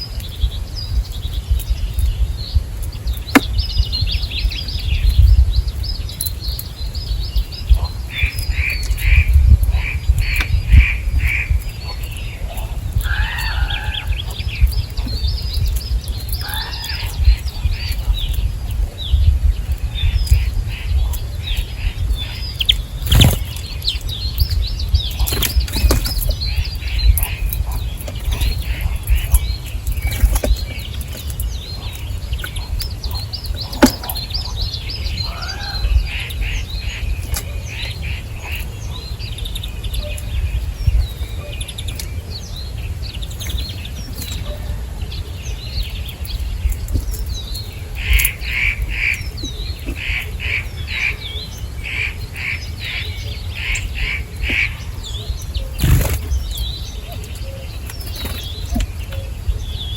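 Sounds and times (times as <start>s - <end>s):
constant low rumble: 0.0s - 59.9s
small birds chirping: 0.0s - 59.9s.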